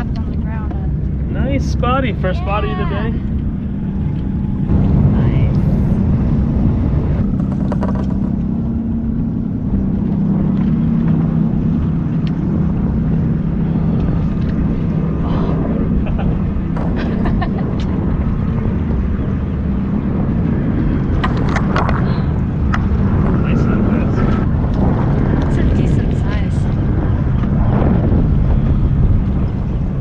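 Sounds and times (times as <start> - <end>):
engine humming: 0.0 - 30.0
water noise: 0.0 - 30.0
wind: 0.0 - 30.0.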